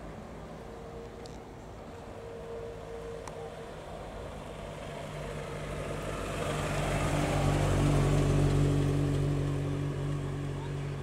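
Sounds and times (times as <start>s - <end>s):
car engine driving past: 1.9s - 11.0s.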